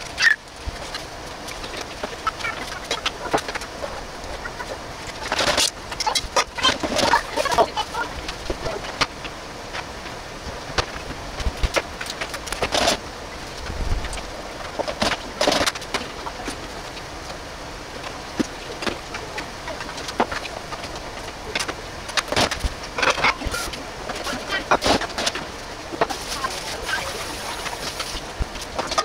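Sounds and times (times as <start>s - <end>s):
pot of water boiling: 0.0s - 29.0s.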